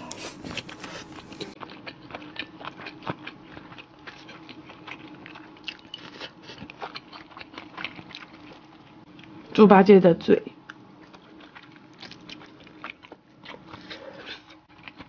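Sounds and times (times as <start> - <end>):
person chewing food: 0.0 - 9.6, 10.6 - 15.0.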